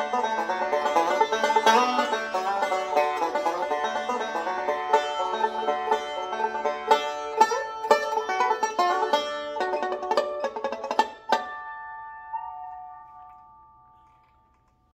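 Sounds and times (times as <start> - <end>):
banjo fast picking: 0.0 - 13.0.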